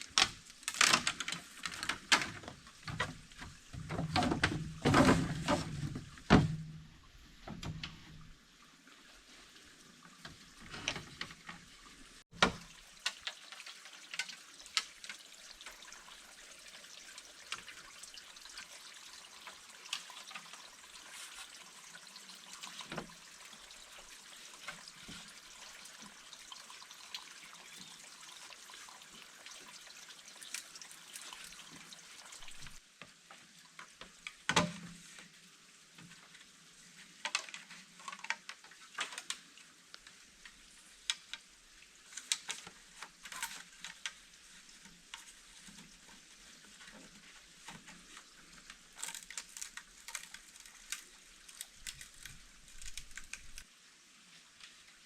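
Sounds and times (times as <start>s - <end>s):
steady hiss with crackles: 0.0s - 55.0s.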